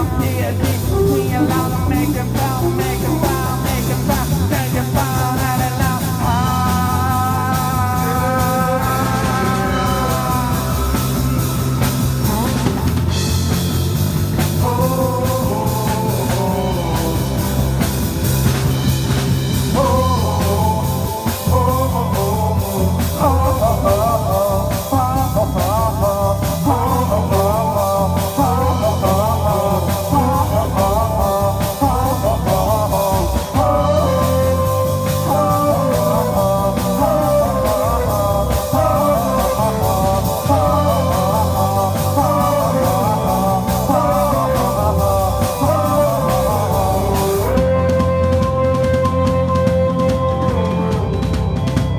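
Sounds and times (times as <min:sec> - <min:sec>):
bass guitar: 0:00.0 - 0:51.9
drum kit: 0:00.0 - 0:51.9
electric guitar: 0:00.0 - 0:51.9
wavering lead line: 0:00.0 - 0:51.9.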